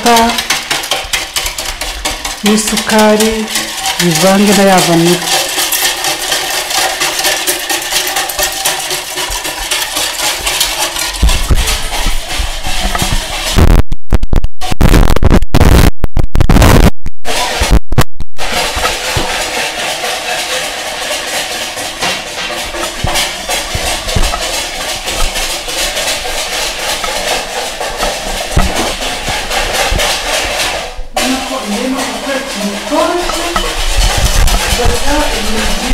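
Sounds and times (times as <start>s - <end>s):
whisk beating in plastic bowl: 0.0s - 13.6s, 18.4s - 35.9s.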